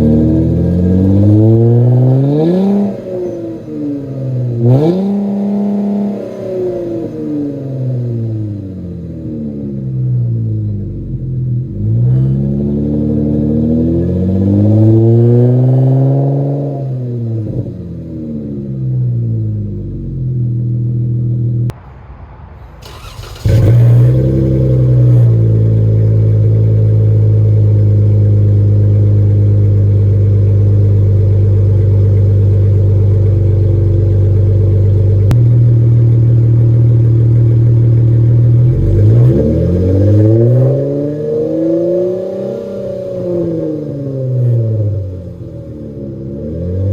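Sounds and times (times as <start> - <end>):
loud car exhaust revving: 0.0 - 21.7, 22.8 - 46.9.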